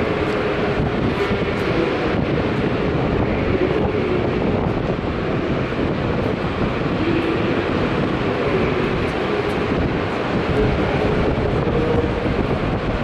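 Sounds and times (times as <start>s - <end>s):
train pulling in: 0.0s - 13.0s.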